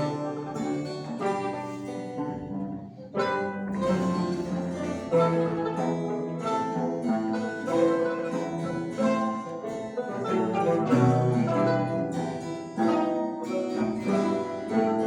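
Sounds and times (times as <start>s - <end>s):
mandolin ensemble playing: 0.0s - 15.0s.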